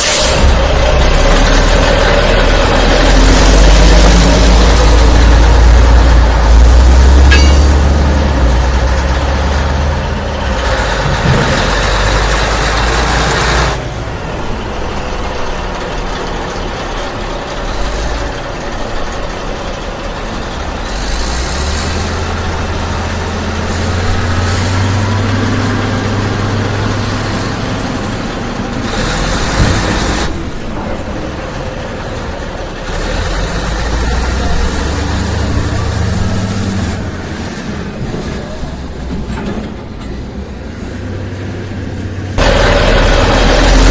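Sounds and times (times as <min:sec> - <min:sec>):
heavy vehicle engine rumbling: 0:00.0 - 0:43.9.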